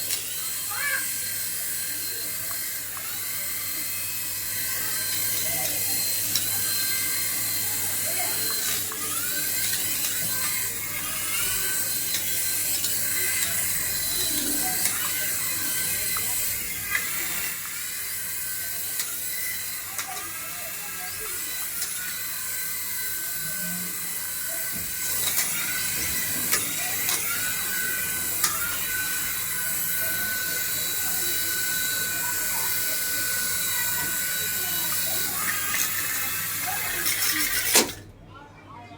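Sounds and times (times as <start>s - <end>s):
plastic gears clicking: 0.0s - 38.1s
toy electric motor whining: 0.0s - 38.1s.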